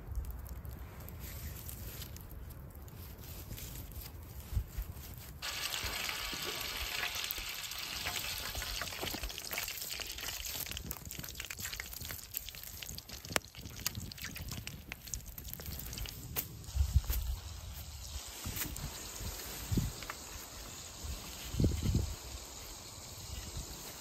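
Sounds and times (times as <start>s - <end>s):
oil sizzling with crackling pops: 0.0s - 24.0s.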